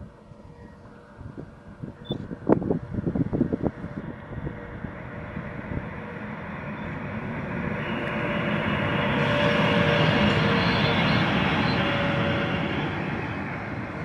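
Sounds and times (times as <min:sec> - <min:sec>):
freight train rumble: 0:00.0 - 0:14.0.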